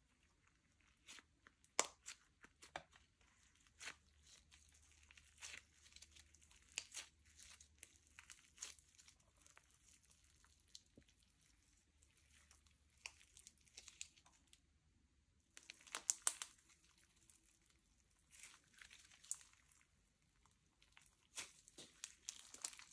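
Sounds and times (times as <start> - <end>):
slime squeezed sticky crackles: 0.1 - 14.6, 15.5 - 22.9.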